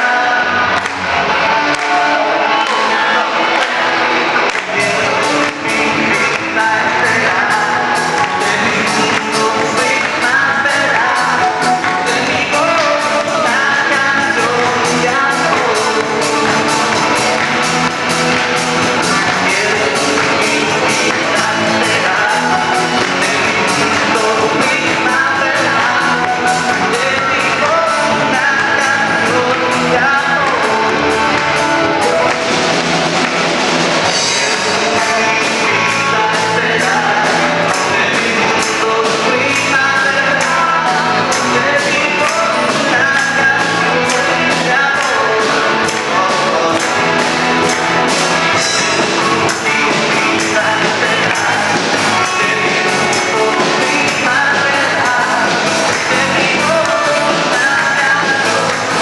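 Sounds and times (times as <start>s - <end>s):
church band playing upbeat song: 0.0s - 59.0s
guitars: 0.0s - 59.0s
keyboard: 0.0s - 59.0s
person singing: 0.0s - 59.0s
steady drum beat: 0.0s - 59.0s.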